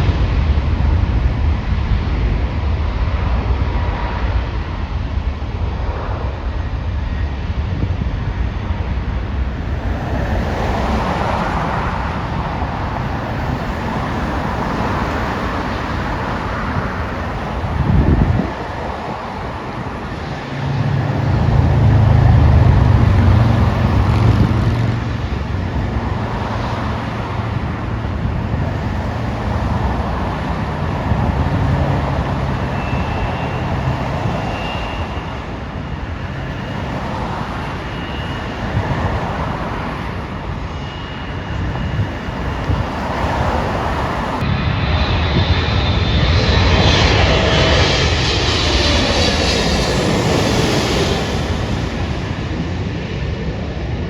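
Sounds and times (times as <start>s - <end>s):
jet airliner engines rumbling: 0.0s - 54.0s.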